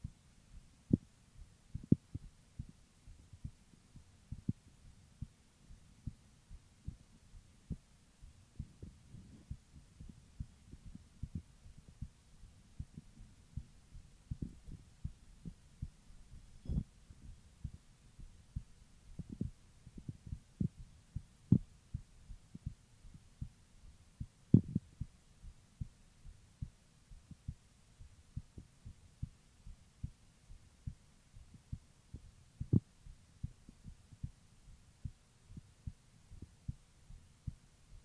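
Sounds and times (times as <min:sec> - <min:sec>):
heartbeat through stethoscope: 0:00.0 - 0:38.0.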